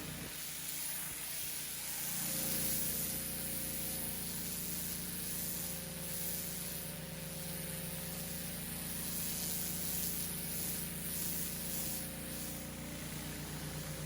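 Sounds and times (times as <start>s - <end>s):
high-pressure water spray hissing: 0.0s - 14.0s
pressure washer motor humming: 0.0s - 14.0s.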